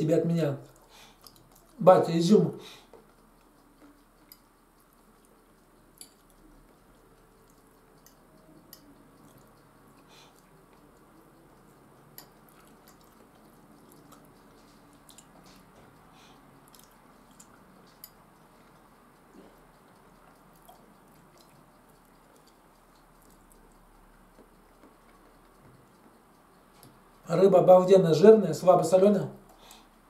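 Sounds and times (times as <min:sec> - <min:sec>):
quiet chewing: 0:00.6 - 0:01.8, 0:02.6 - 0:27.3.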